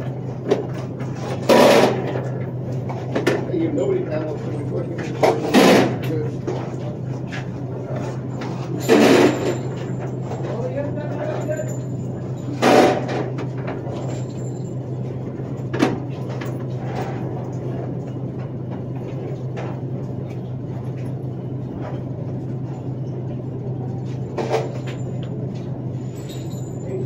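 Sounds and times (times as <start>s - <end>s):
air handling hum: 0.0s - 27.0s.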